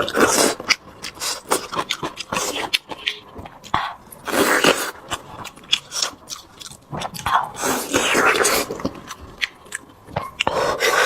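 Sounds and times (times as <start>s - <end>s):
wet chewing with lip smacks: 0.5s - 11.0s.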